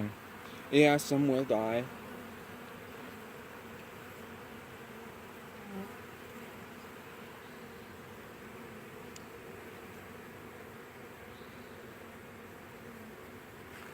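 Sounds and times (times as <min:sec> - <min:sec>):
honeybee swarm buzzing: 0:00.0 - 0:13.9.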